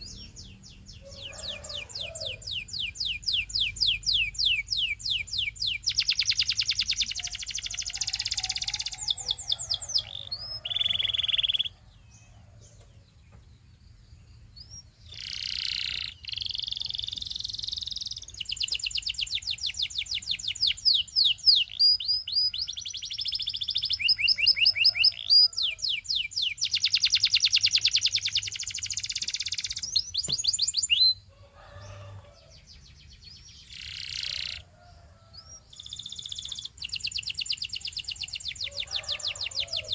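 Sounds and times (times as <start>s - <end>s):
canary singing: 0.0s - 13.3s, 14.4s - 39.9s.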